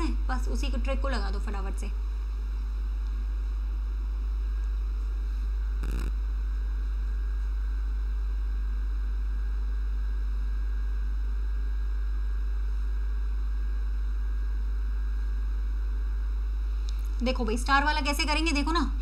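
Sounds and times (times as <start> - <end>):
low hum with faint hiss: 0.0 - 19.0.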